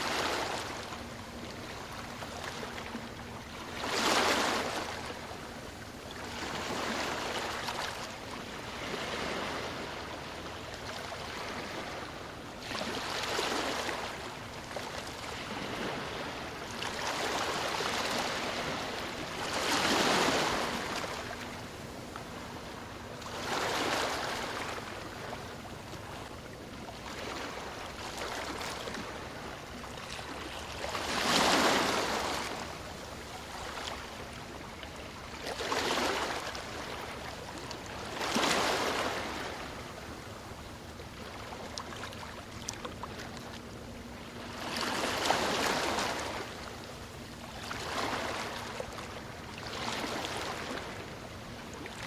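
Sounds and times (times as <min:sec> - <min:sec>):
steady hiss of surf: 0:00.0 - 0:26.3, 0:27.0 - 0:43.3
waves breaking on shore: 0:00.0 - 0:52.0.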